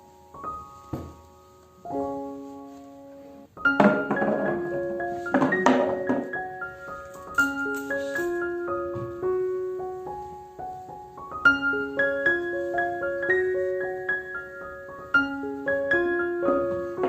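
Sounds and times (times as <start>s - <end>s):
slow solo piano melody: 0.0s - 17.0s.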